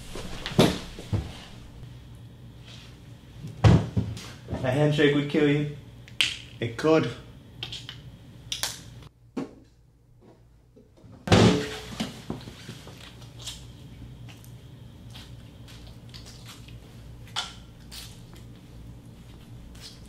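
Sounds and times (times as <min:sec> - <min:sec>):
steady low hum: 0:00.0 - 0:10.7, 0:11.3 - 0:20.0.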